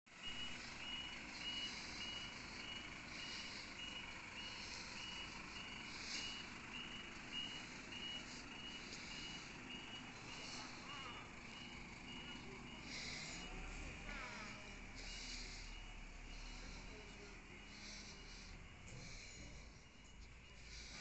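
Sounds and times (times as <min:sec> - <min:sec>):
low engine rumble: 0:00.1 - 0:21.0
reversing alarm beeping: 0:00.1 - 0:21.0.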